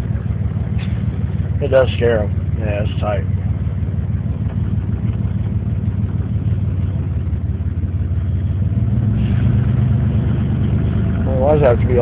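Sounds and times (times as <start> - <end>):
pickup truck exhaust drone: 0.0 - 12.0.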